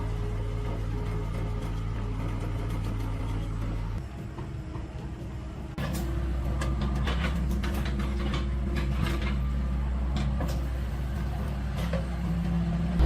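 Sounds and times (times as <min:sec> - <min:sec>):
engine running low: 0:00.0 - 0:13.0.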